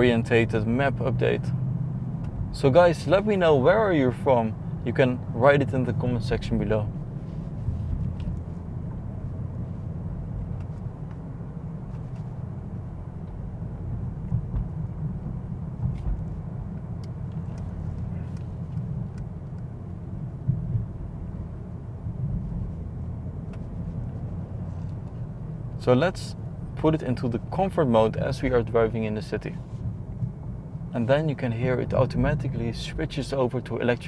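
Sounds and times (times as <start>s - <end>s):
car rumble from inside cabin: 0.0s - 34.0s.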